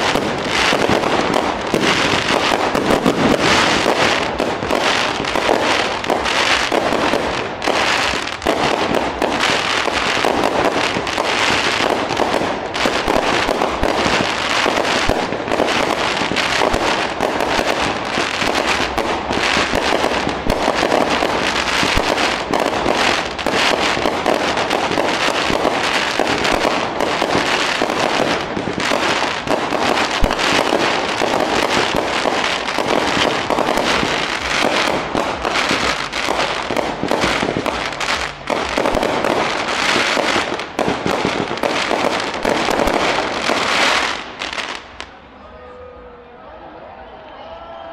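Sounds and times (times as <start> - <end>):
fireworks bursts and bangs: 0.0 - 45.1.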